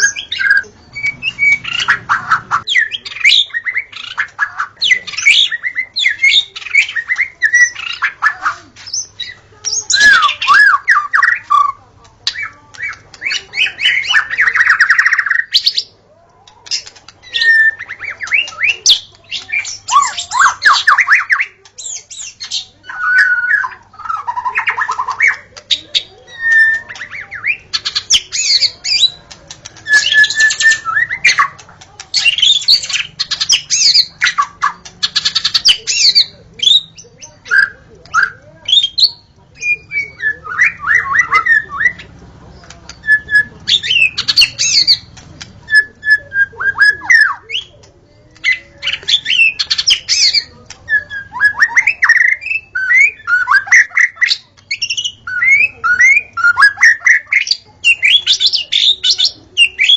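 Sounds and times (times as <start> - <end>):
bird singing whistles and trills: 0.0 - 8.1, 8.9 - 15.9, 16.6 - 31.6, 32.2 - 42.0, 45.7 - 47.8, 48.4 - 59.9.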